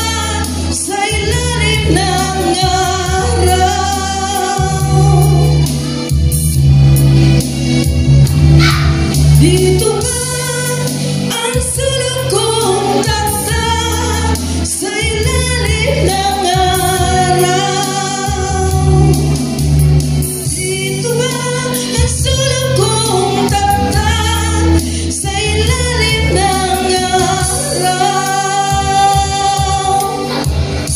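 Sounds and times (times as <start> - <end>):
woman singing into microphone: 0.0 - 6.1, 8.6 - 30.9
backing music with bass line: 0.0 - 30.9.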